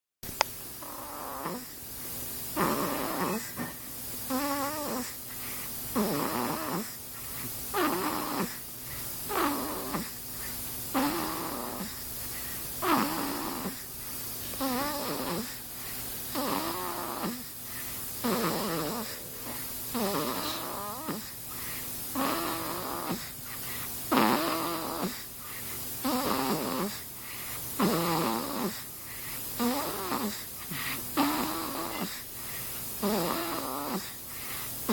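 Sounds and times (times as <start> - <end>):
baby snoring: 0.8 - 1.9, 2.5 - 34.9.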